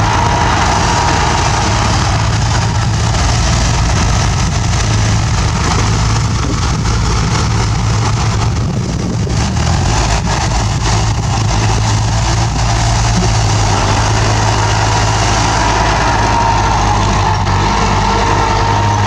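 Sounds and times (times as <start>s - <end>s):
bulldozer engine humming: 0.0s - 19.0s.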